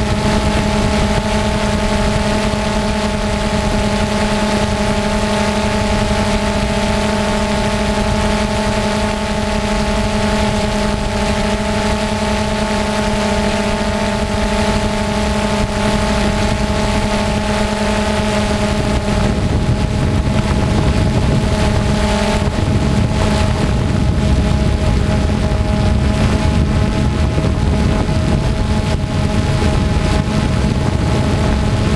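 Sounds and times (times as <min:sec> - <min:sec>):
drone propellers buzzing: 0:00.0 - 0:31.9
wind rushing over microphone: 0:00.0 - 0:31.9.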